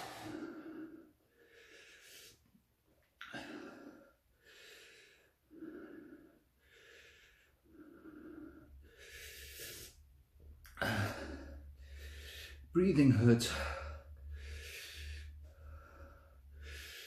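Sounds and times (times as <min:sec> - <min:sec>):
man breathing heavily: 0:00.0 - 0:02.6, 0:03.2 - 0:17.0.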